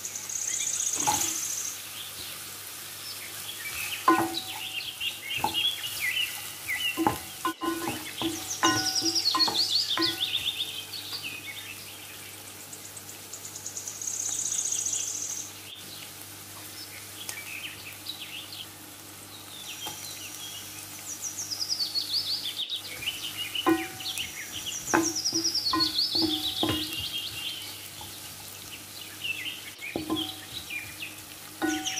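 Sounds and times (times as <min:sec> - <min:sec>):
onions frying in oil: 0:00.0 - 0:31.9
songbird singing: 0:00.0 - 0:31.9.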